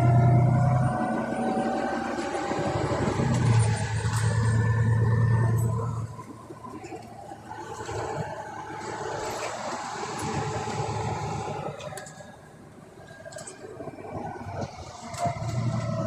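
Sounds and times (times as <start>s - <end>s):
bus diesel engine droning: 0.0s - 16.0s
drivetrain whine: 0.0s - 16.0s.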